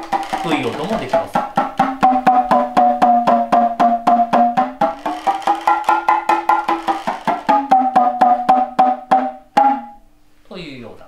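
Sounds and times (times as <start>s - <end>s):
hand drum struck rapidly: 0.0s - 10.0s.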